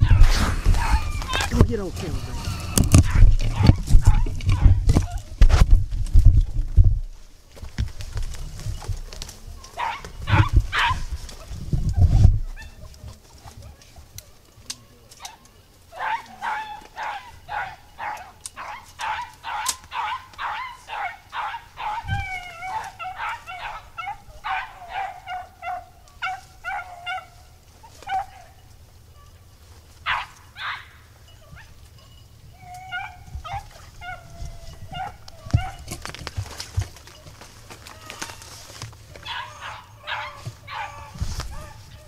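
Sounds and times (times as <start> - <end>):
dogs baying: 0.0 - 5.3, 9.6 - 14.0, 15.2 - 42.0.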